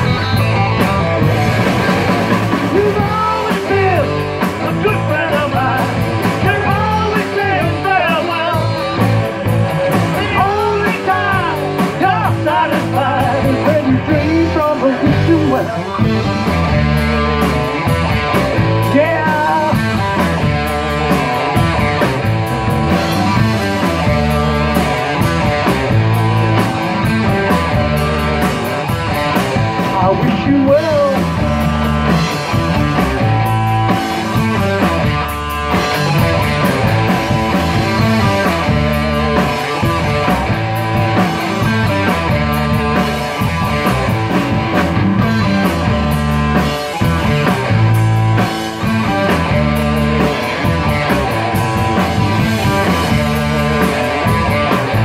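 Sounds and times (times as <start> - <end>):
live rock band instrumental: 0.0 - 55.0.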